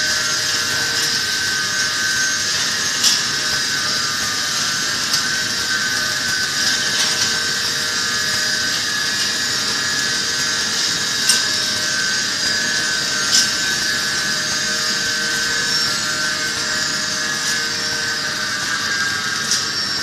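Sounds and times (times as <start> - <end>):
packing machine whirring: 0.0 - 20.0.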